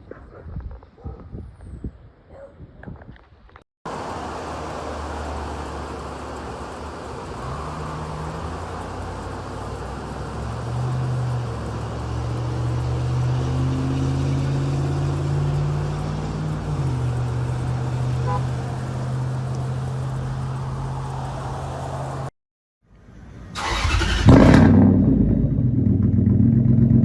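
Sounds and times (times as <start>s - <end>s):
truck engine with loud exhaust: 3.9s - 22.3s, 23.0s - 27.0s.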